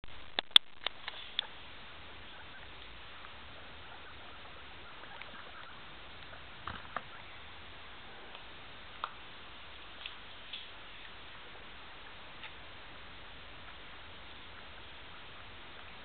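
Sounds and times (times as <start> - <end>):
steady hiss: 0.1 - 16.0
guinea pigs rustling in bedding: 0.8 - 16.0.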